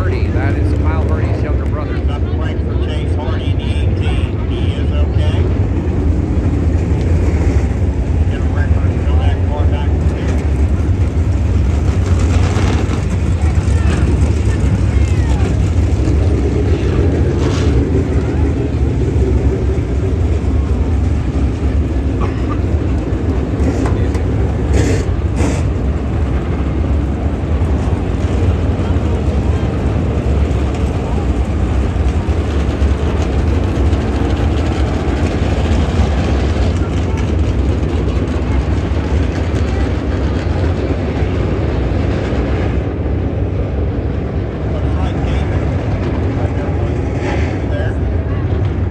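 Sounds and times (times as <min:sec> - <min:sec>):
race car engines droning: 0:00.0 - 0:48.9.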